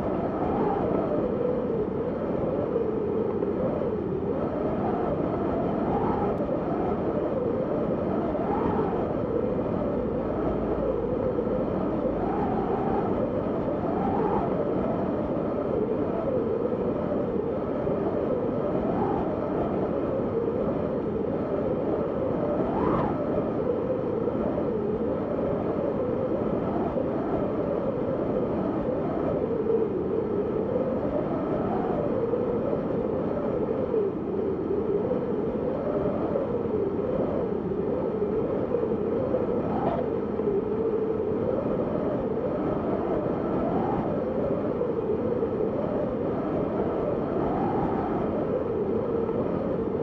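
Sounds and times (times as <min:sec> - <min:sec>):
blizzard wind howling: 0:00.0 - 0:50.0.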